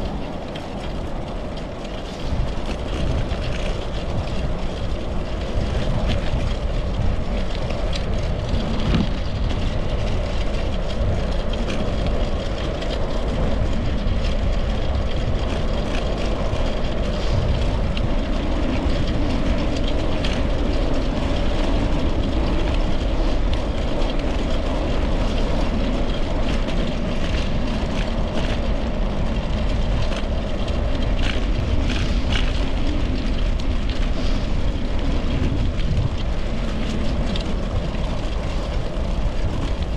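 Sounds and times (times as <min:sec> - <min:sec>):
tyres rolling on pavement: 0:00.0 - 0:39.9
wind on microphone: 0:00.0 - 0:39.9.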